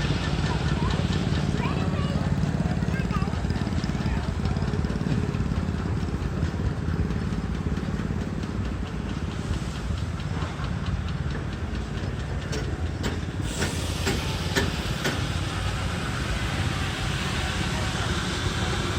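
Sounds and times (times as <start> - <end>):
steam engine rumbling: 0.0 - 18.9
steam hissing: 0.0 - 18.9.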